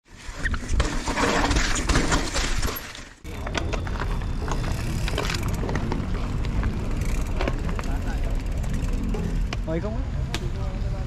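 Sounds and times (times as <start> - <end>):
bike tyre and wind noise: 0.0 - 11.0
bike clicks and rattles: 0.4 - 10.6.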